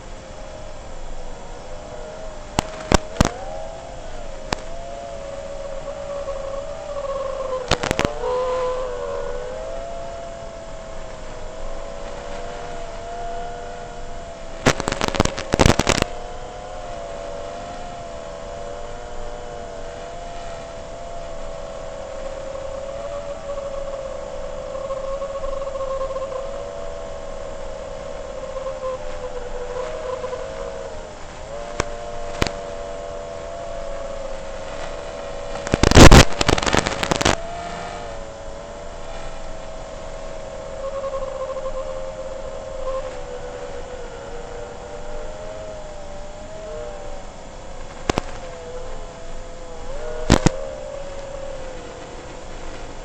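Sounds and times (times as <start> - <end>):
quadcopter motors whining: 0.0 - 53.0
rough noise bursts: 0.0 - 53.0.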